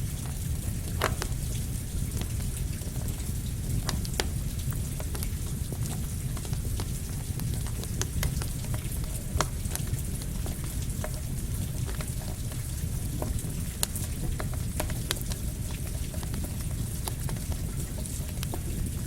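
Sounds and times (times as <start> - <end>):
campfire crackling and popping: 0.0 - 19.0
rain hissing: 0.0 - 19.0.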